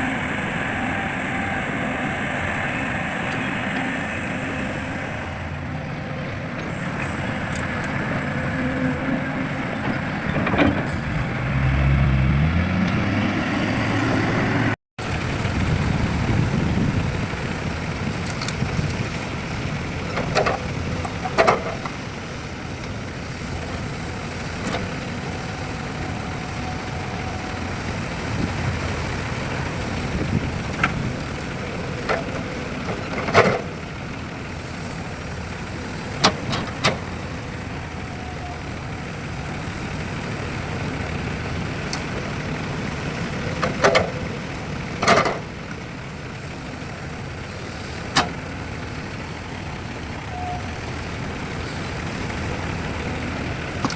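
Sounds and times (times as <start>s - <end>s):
diesel machinery engines running: 0.0s - 53.9s.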